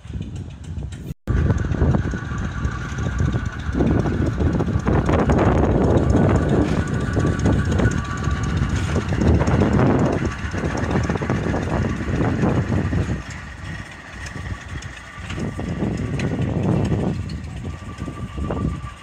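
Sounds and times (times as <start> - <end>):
train wagons rumbling on rails: 0.0 - 19.0
wheels clattering over rail joints: 0.0 - 19.0.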